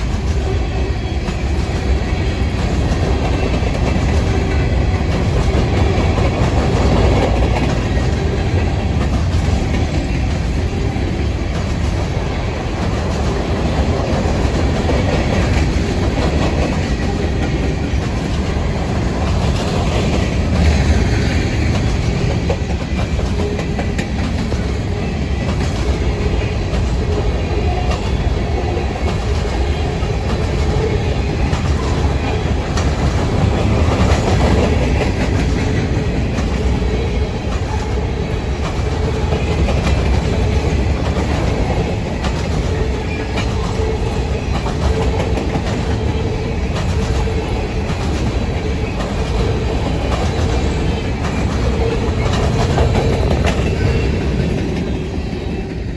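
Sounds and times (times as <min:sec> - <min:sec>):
railcars rumbling past: 0:00.0 - 0:55.9
wheels clacking over rail joints: 0:00.0 - 0:55.9.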